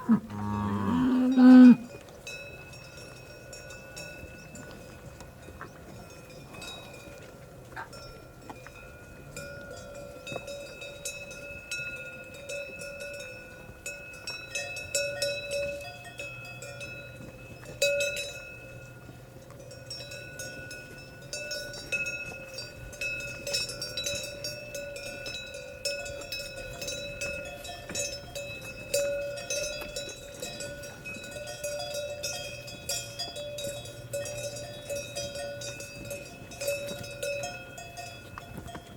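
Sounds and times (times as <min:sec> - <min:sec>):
cowbells clanking: 0:00.0 - 0:38.9.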